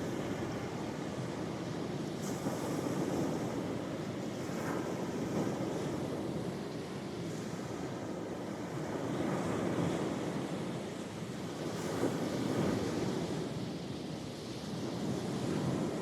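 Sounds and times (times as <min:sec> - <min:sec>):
sea waves washing onto shore: 0:00.0 - 0:16.0.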